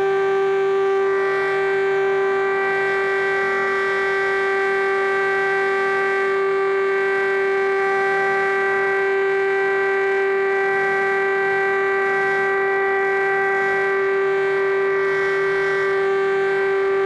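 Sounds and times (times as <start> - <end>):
siren steady tone: 0.0 - 17.0.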